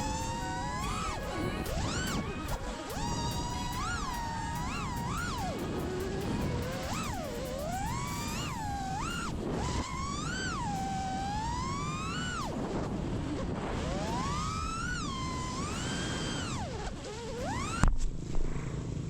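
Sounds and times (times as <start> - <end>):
drone motors whining: 0.0 - 18.9.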